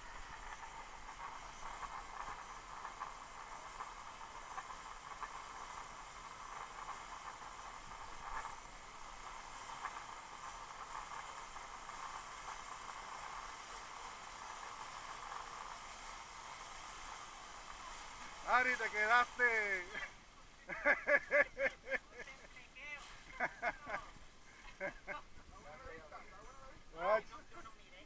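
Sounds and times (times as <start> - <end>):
zip line pulleys whirring on cable: 0.0 - 28.0.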